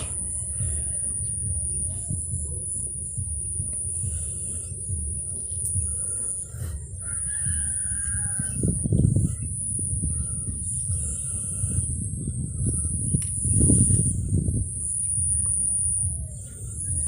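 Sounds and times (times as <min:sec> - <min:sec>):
high-pitched whine: 0:00.0 - 0:17.0
low rumbling on microphone: 0:00.0 - 0:17.0.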